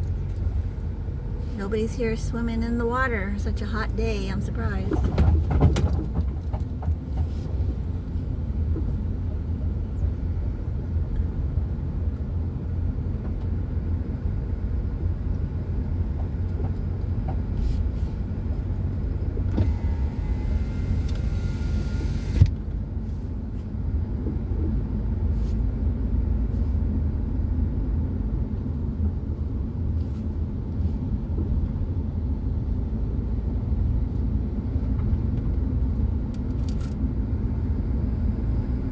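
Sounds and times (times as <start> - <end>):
engine and tyre rumble: 0.0 - 38.9.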